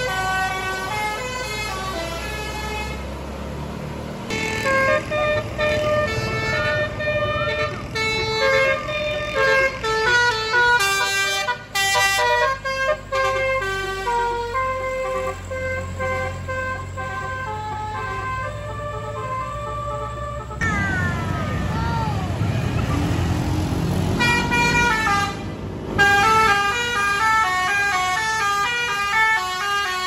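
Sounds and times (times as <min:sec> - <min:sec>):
low engine rumble: 0:00.0 - 0:28.2.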